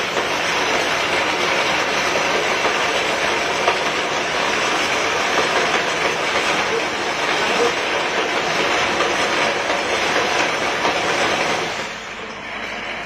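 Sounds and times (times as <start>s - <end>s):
machine clattering rattle: 0.0s - 11.8s.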